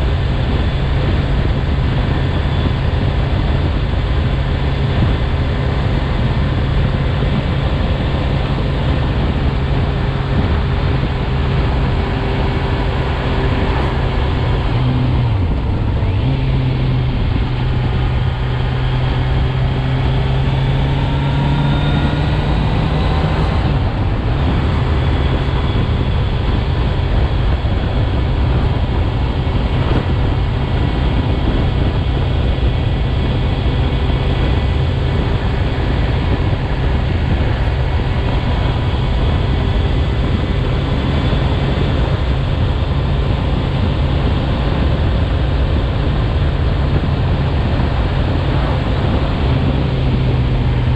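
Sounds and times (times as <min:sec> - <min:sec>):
motorcycle engine running: 0:00.0 - 0:50.9
wind and road noise: 0:00.0 - 0:50.9.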